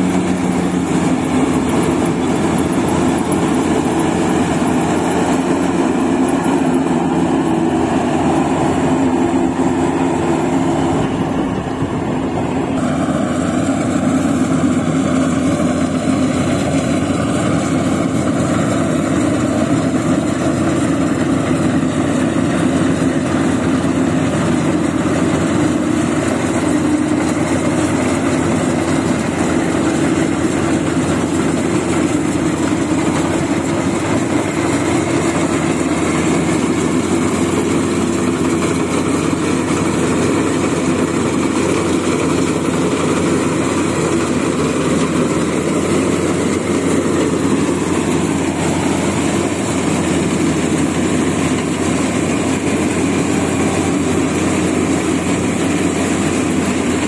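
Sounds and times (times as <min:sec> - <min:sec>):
combine harvester engine running: 0:00.0 - 0:57.0
machinery turning: 0:00.0 - 0:57.0.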